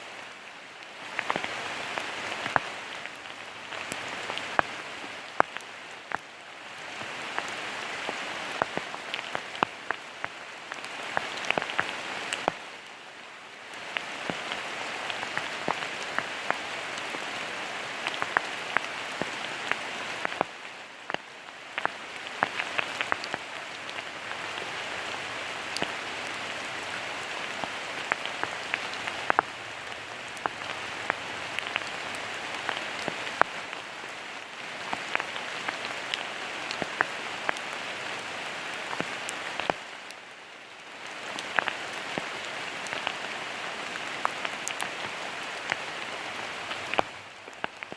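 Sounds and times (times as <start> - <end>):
raindrops ticking on surfaces: 0.0 - 47.9
steady rain hissing: 0.0 - 47.9.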